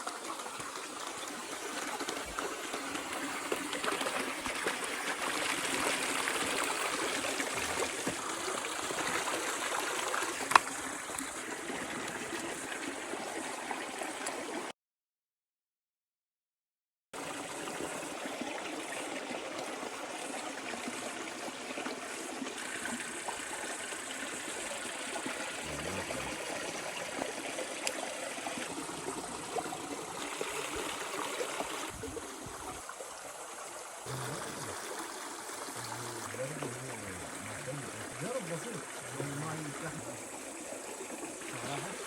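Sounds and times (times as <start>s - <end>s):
stream water rushing: 0.0s - 14.7s, 17.2s - 42.0s.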